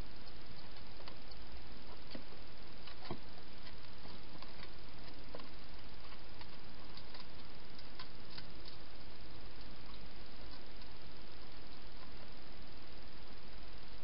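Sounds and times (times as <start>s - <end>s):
microphone hiss: 0.0s - 14.0s
hedgehog clicking and crunching: 0.1s - 12.5s.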